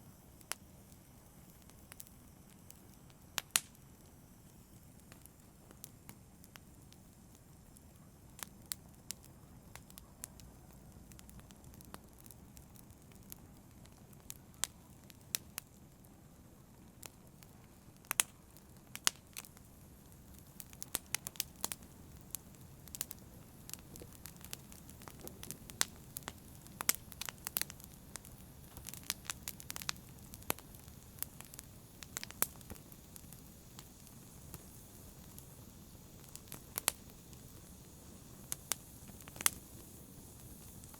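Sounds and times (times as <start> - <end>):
fire crackling and popping: 0.0 - 40.9
campfire rumbling: 0.2 - 40.9.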